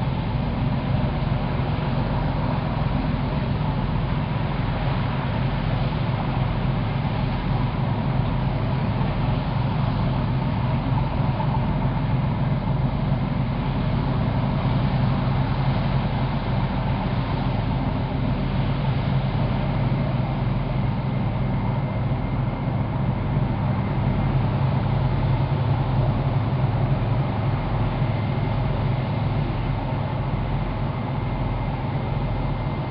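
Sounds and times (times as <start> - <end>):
diesel engines running: 0.0 - 32.9
water churned by waterjets: 0.0 - 32.9.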